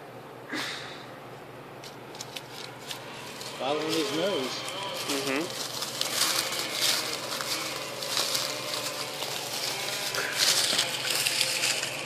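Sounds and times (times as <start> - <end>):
leaves crunching underfoot: 2.2 - 12.0.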